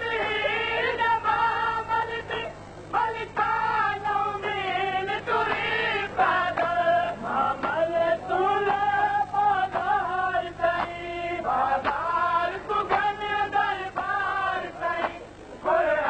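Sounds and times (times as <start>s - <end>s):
voices singing a lament in chorus: 0.0s - 16.0s.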